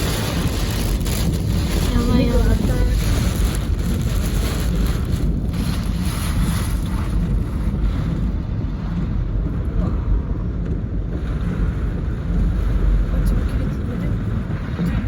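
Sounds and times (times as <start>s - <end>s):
strong wind blowing: 0.0s - 15.0s
wind buffeting microphone: 0.0s - 15.0s.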